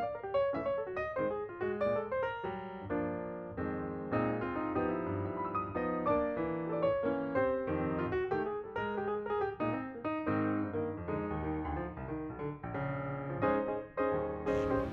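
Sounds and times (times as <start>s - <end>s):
piano music: 0.0s - 14.9s.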